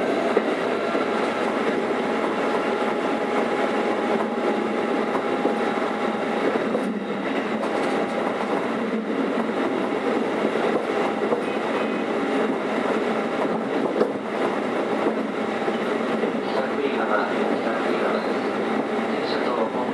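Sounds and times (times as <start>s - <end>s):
train wheel and rail noise: 0.0s - 19.9s.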